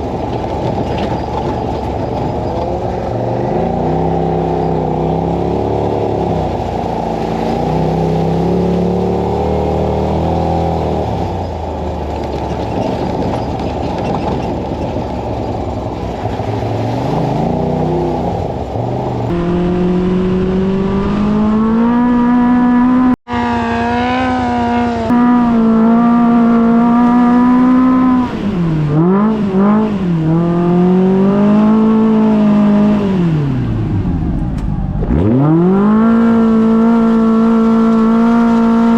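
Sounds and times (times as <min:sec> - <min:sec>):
utility vehicle engine revving: 0:00.0 - 0:38.9.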